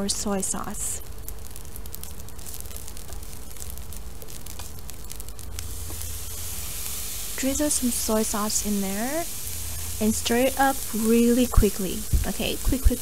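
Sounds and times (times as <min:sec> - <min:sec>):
rice crackling in a hot pan: 0:00.0 - 0:13.0
sauce hissing on hot rice: 0:01.4 - 0:13.0.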